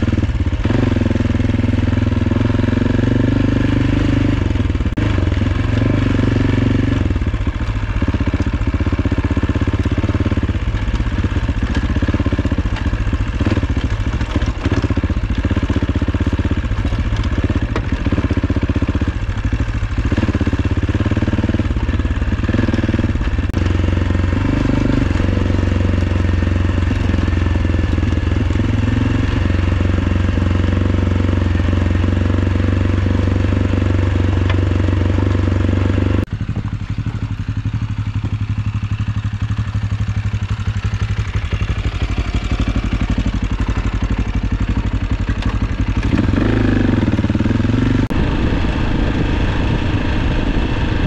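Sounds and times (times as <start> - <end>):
single-cylinder engine running: 0.0 - 51.0.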